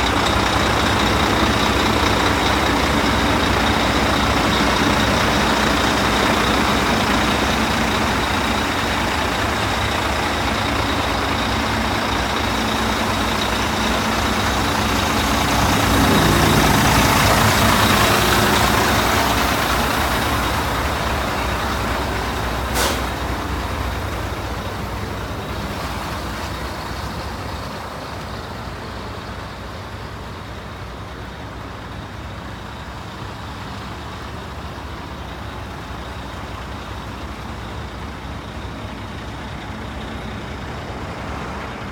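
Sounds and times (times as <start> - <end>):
dump truck running: 0.0 - 41.9.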